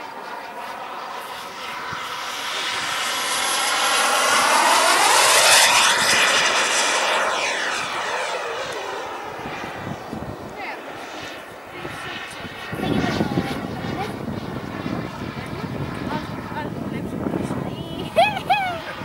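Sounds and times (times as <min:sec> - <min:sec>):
model jet engine whine: 0:00.0 - 0:19.0.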